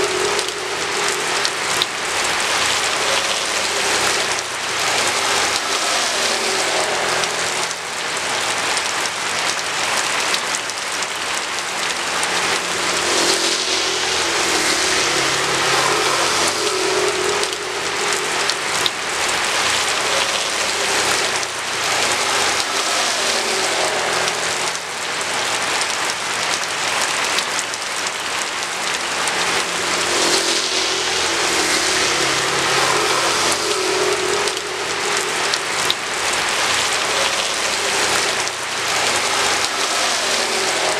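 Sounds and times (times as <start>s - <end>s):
heavy rain on hard surface: 0.0s - 40.9s
vehicles passing on road: 0.0s - 40.9s.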